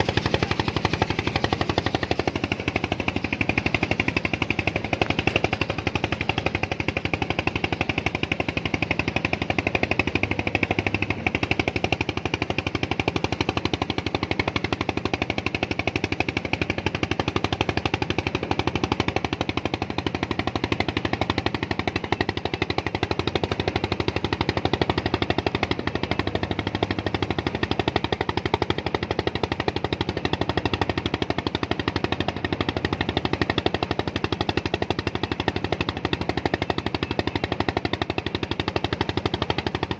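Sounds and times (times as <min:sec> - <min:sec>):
small engine chugging: 0:00.0 - 0:39.9.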